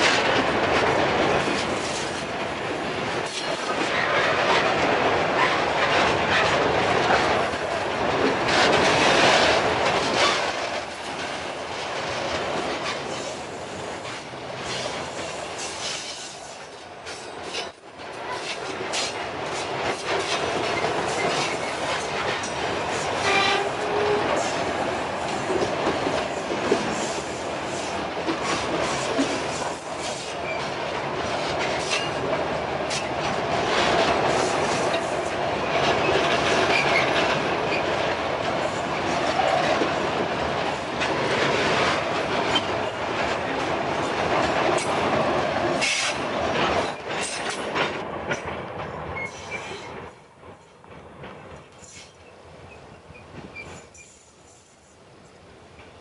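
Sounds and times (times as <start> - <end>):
train wheels clicking over rail joints: 0.0 - 56.0.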